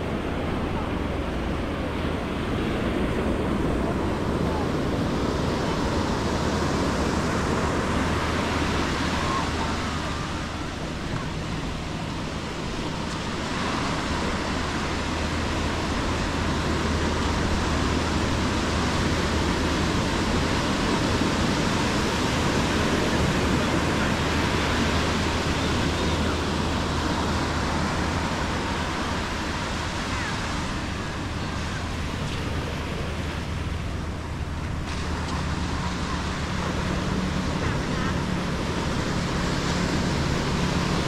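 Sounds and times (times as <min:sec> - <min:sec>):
waves washing up a beach: 0:00.0 - 0:41.0.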